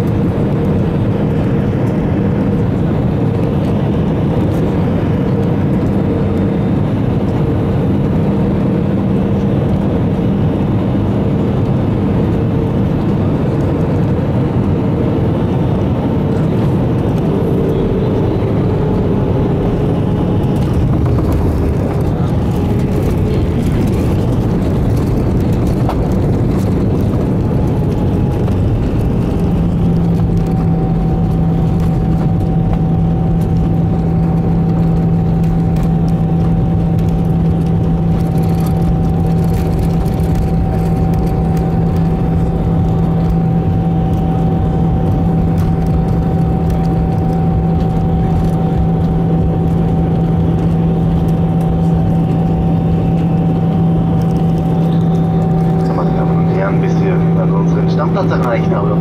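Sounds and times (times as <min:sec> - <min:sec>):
aircraft engines and airflow rush: 0:00.0 - 0:59.0
low engine tone: 0:00.0 - 0:59.0.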